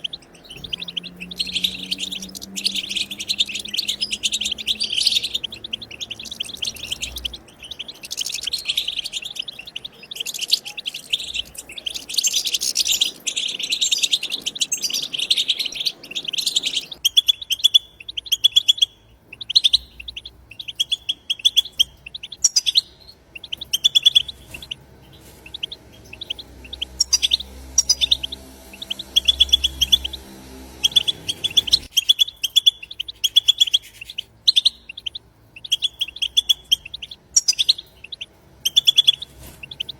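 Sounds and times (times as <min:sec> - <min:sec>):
finches twittering and trilling: 0:00.0 - 0:39.9.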